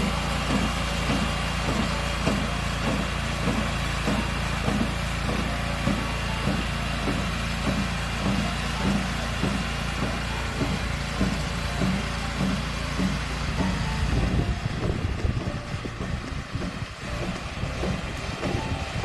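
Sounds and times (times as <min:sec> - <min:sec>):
machinery engine running: 0:00.0 - 0:19.0.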